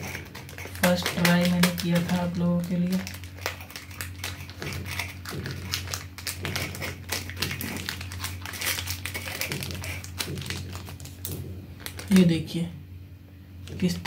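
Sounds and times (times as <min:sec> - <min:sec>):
scissors snipping plastic packet: 0:00.0 - 0:12.4
wrapper crackling and rustling: 0:00.0 - 0:12.6
steady low hum: 0:00.0 - 0:14.0.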